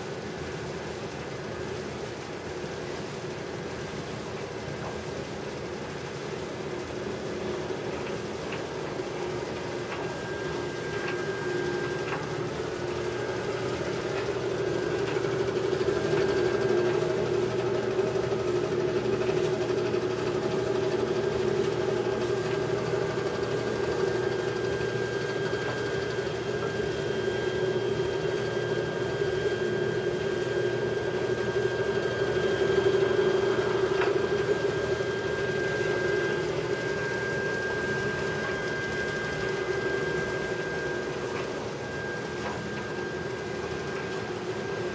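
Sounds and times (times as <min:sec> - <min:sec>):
clothes dryer humming: 0:00.0 - 0:44.9.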